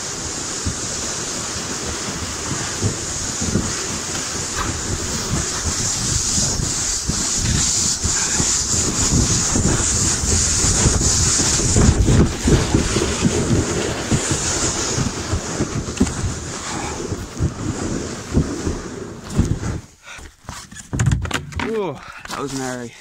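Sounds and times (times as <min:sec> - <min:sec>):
wind on microphone: 0:00.0 - 0:20.0
kayak hull scraping on snow: 0:00.0 - 0:20.9, 0:22.4 - 0:22.8
rumble of bumps: 0:00.5 - 0:22.4.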